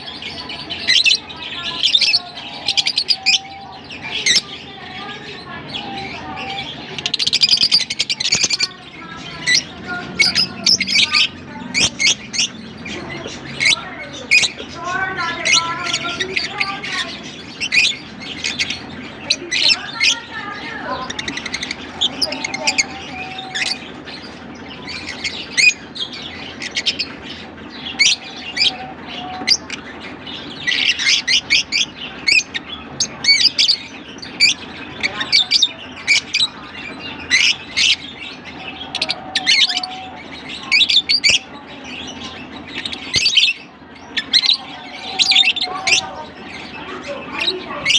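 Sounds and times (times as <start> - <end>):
lovebirds chirping: 0.0 - 47.9.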